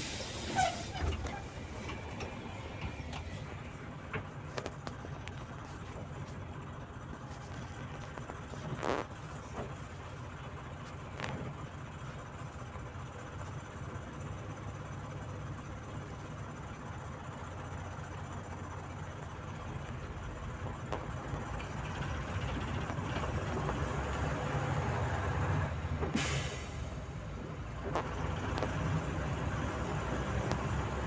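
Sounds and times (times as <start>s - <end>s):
bus engine running at low revs: 0.0s - 31.0s.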